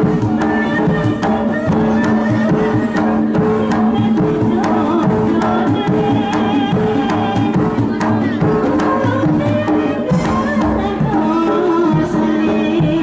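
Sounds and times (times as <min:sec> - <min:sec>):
hand drums beating: 0:00.0 - 0:13.0.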